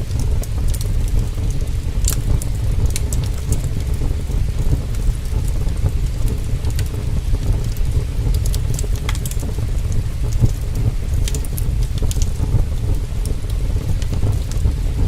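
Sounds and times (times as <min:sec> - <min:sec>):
fire crackling and popping: 0:00.0 - 0:15.0
heavy rain: 0:00.0 - 0:15.0.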